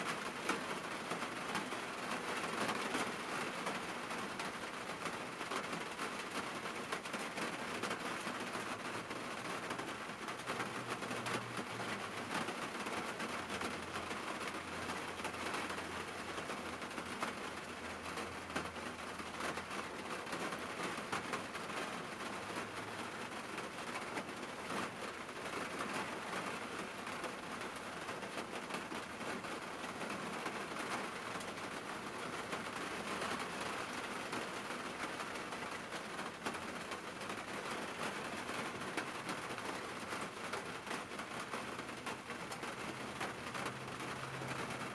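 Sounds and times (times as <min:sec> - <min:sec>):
rain on car roof: 0:00.0 - 0:44.9.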